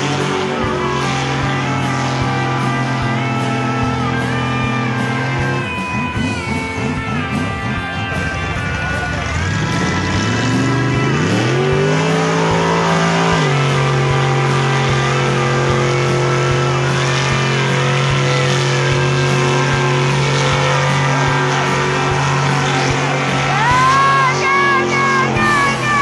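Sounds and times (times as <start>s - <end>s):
truck engine revving: 0.0s - 26.0s.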